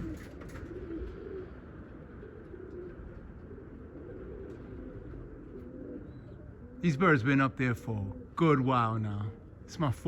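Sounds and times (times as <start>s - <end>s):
pigeons cooing: 0.0s - 9.7s.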